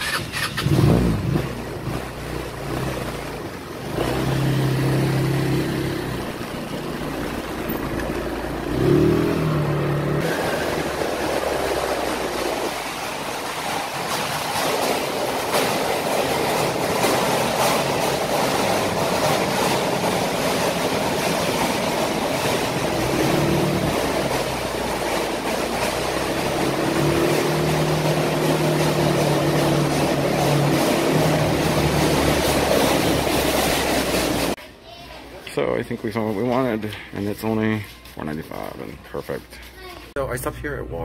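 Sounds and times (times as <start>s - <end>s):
scooter engine hum: 0.0s - 34.6s.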